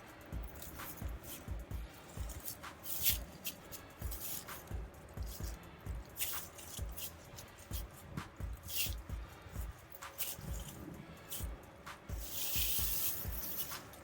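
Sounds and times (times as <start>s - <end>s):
spade digging into soil: 0.4s - 9.0s, 9.9s - 11.5s, 12.1s - 14.0s.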